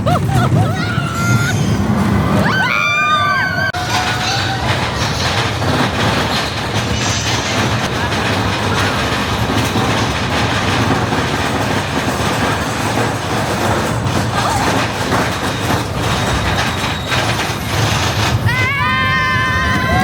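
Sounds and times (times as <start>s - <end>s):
roller coaster cars rumbling: 0.0s - 20.0s
wheels rattling: 0.0s - 20.0s.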